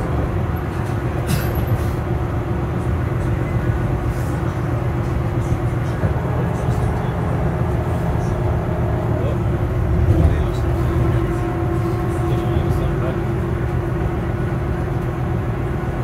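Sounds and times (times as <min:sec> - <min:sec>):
road and tyre rumble: 0:00.0 - 0:16.0.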